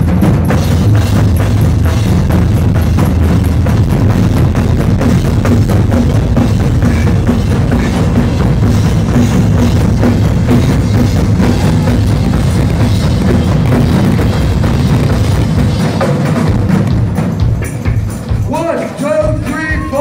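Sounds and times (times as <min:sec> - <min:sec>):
large floor drums: 0:00.0 - 0:20.0
rock drum kit: 0:00.0 - 0:20.0.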